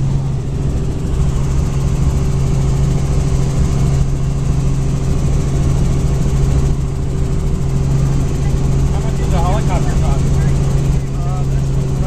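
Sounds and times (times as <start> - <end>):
helicopter droning: 0.0 - 12.0.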